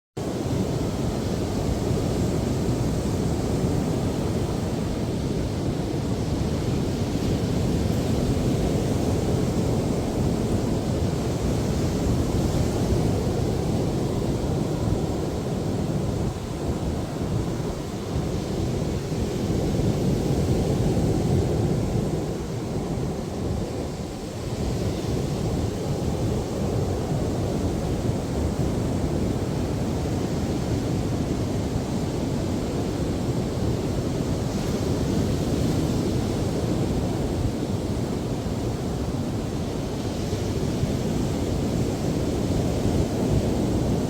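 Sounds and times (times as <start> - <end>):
strong wind: 0.2 - 44.0.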